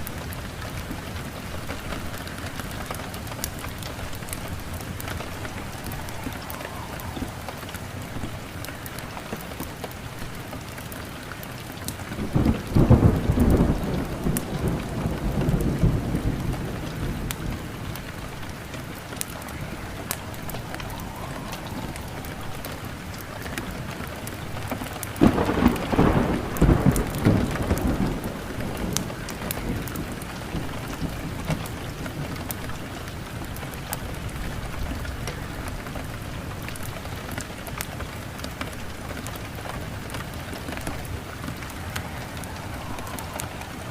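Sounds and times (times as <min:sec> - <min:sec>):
steady rain: 0:00.0 - 0:43.9
thunder rumbling: 0:00.0 - 0:43.9.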